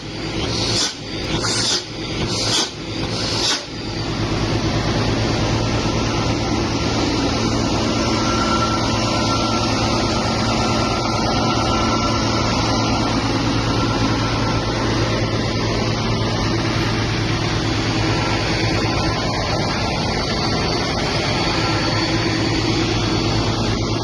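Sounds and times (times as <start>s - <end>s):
vacuum cleaner motor drone: 0.0s - 24.0s.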